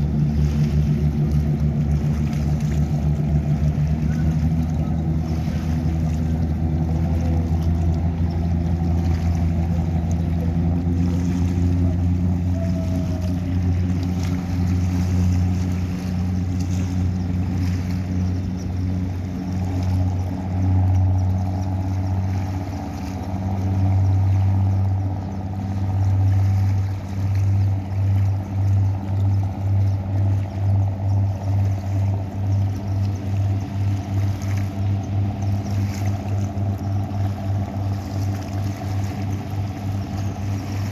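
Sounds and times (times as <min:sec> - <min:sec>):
boat engines droning: 0:00.0 - 0:40.9
rush of boat wake: 0:00.0 - 0:40.9.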